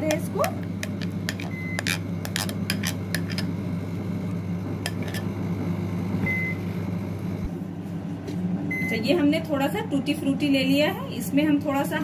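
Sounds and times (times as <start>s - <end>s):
oven running hum: 0.0s - 12.0s.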